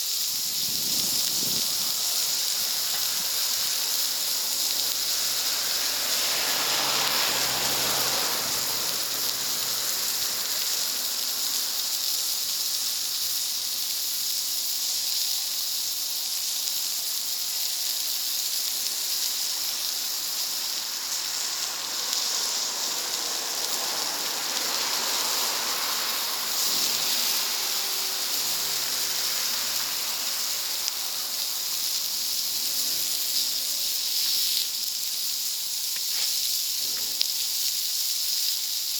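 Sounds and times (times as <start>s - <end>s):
food sizzling on a griddle: 0.0s - 38.9s.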